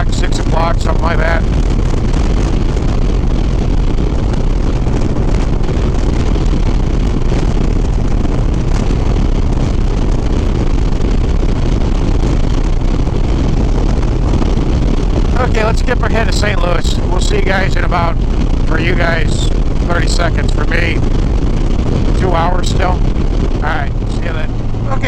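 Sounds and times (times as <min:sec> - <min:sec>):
motorcycle engine drone: 0:00.0 - 0:25.0
wind rush on microphone: 0:00.0 - 0:25.0.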